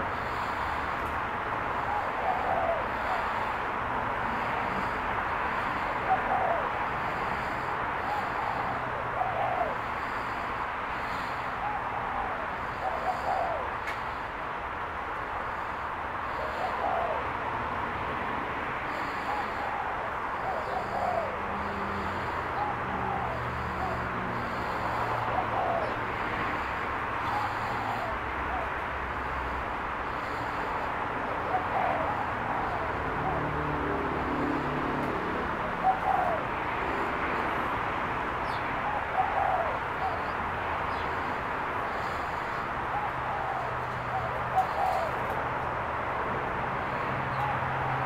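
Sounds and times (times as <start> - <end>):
dove cooing: 0.0 - 14.6, 15.2 - 48.0.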